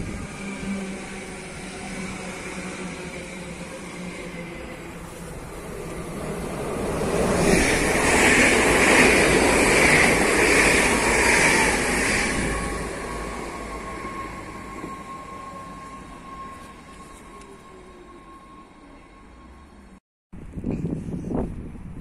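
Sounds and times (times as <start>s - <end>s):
train rumble and rail noise: 0.0s - 22.0s.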